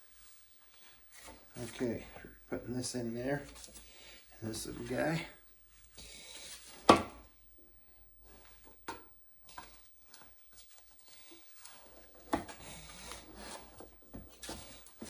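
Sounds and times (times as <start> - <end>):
soft rubbing and rustling: 0.0 - 6.8, 9.4 - 15.0.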